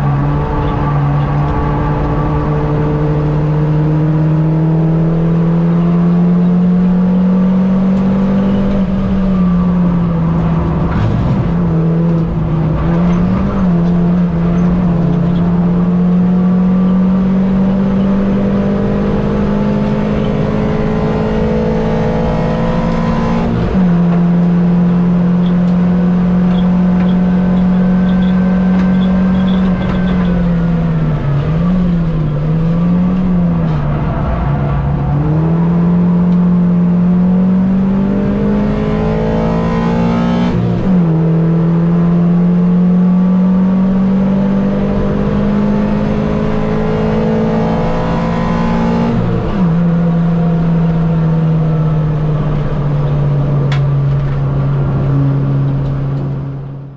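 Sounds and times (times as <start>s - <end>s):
race car engine running hard: 0.0s - 56.9s.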